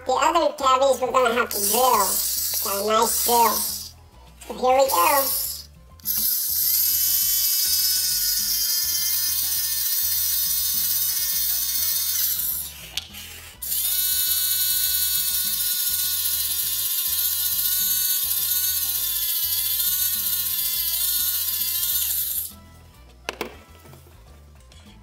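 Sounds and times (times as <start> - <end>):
toy dental drill motor whining: 1.1 - 22.6.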